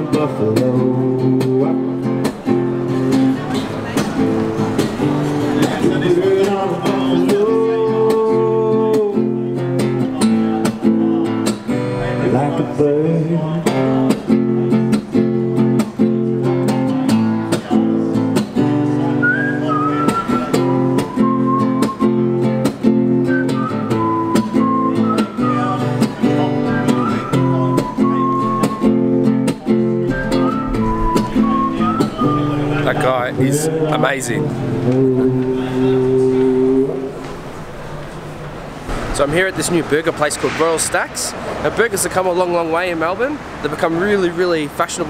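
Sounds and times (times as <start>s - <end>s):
higher guitar melody: 0.0s - 40.3s
acoustic guitar strumming chords: 0.0s - 42.8s.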